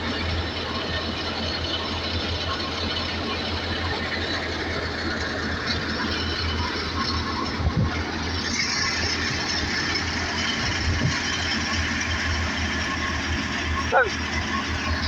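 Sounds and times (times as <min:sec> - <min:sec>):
harvesting machinery engine hum: 0:00.0 - 0:15.0.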